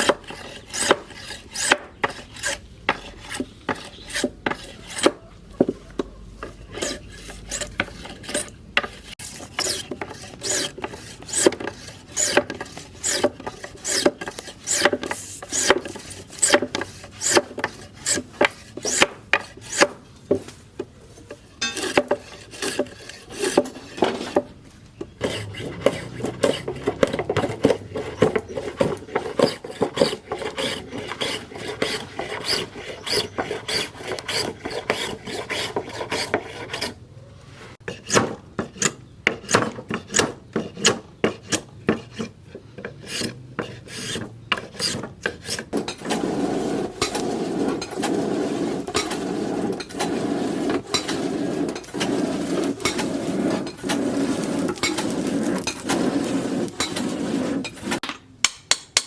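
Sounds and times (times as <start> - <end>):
hand file rasping: 0.0 - 5.3, 6.4 - 20.0, 21.3 - 24.5, 25.2 - 37.0, 37.7 - 58.0.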